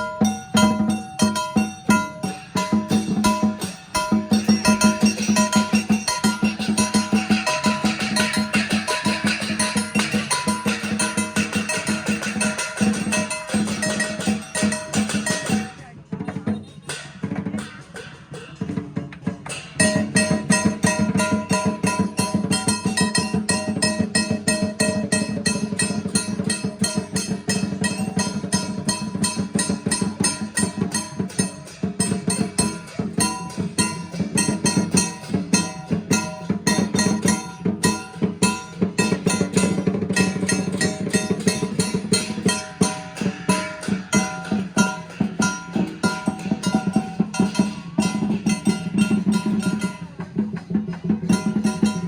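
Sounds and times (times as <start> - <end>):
fast drum and percussion rhythm: 0.0 - 52.0.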